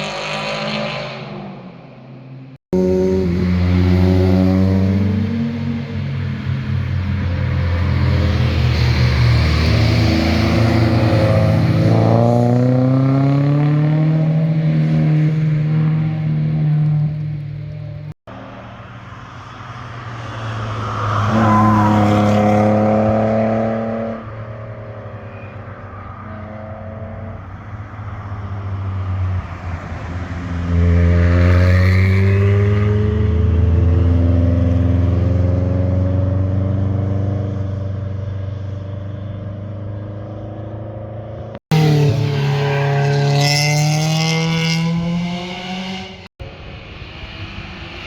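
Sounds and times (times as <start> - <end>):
cars accelerating past: 0.0 - 1.8, 2.8 - 48.0.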